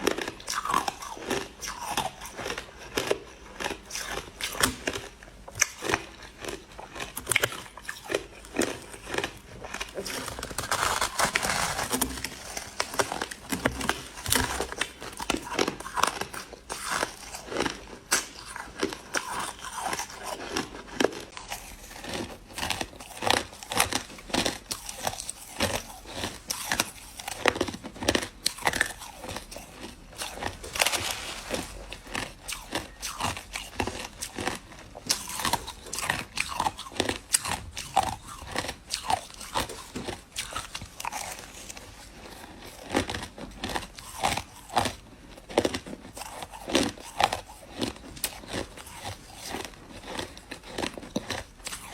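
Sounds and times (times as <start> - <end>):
crushed ice being chewed: 0.0 - 51.9.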